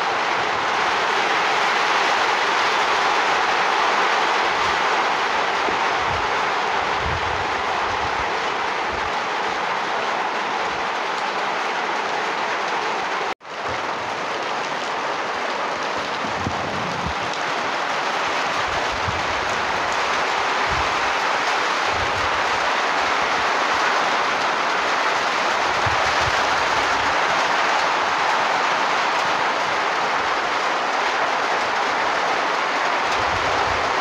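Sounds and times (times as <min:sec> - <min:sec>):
heavy rain: 0:00.0 - 0:34.0.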